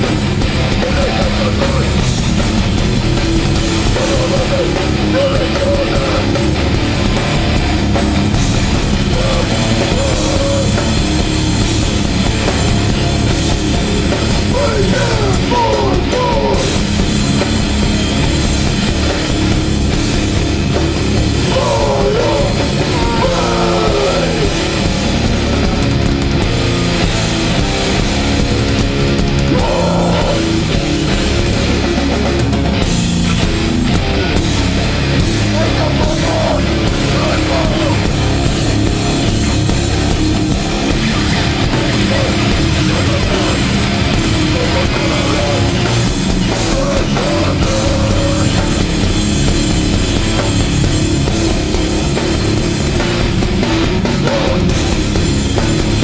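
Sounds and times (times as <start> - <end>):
hardcore band playing live: 0.0 - 56.0.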